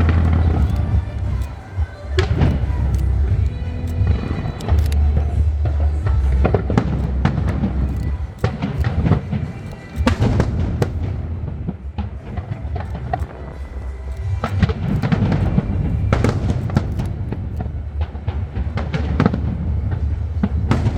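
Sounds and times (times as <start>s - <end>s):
fireworks bangs and crackles: 0.0s - 13.6s, 14.4s - 20.9s
music playing: 0.0s - 20.9s.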